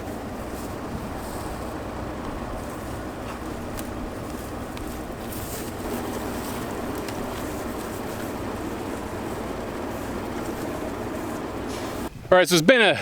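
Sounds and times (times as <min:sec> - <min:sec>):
vehicle engine rumble: 0:00.0 - 0:12.1.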